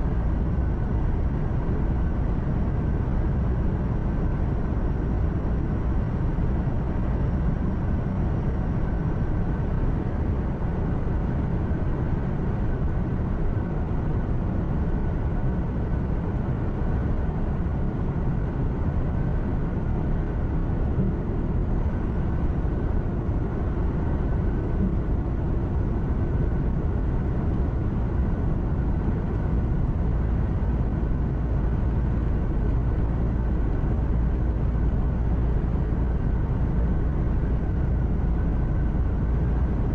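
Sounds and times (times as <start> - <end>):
truck engine drone from cab: 0.0 - 39.9.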